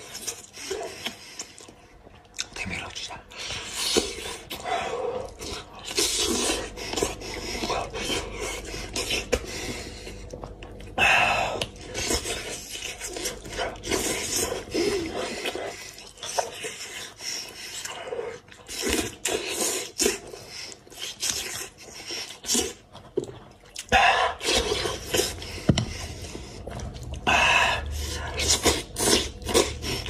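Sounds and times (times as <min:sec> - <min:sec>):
man eating with wet slurping: 0:03.3 - 0:30.0.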